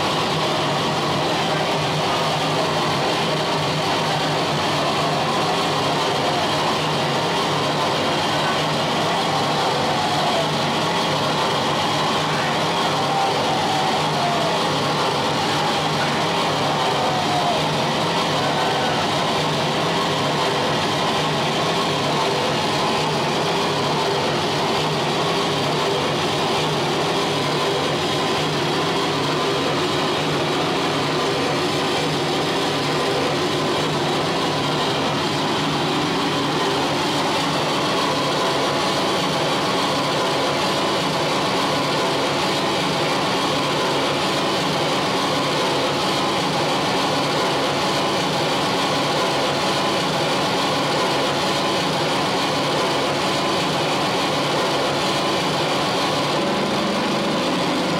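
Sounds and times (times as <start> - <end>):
distorted harsh noise music: 0.0 - 57.9.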